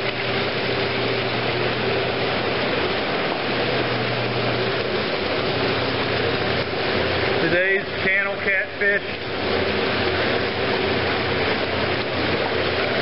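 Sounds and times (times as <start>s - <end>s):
low machine hum: 0.0s - 13.0s
water splashing and churning: 0.0s - 13.0s.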